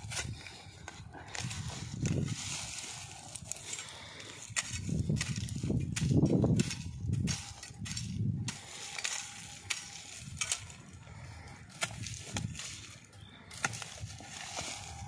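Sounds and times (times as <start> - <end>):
dry grass rustling: 0.0 - 15.0
hand tool scraping dirt: 0.0 - 15.0.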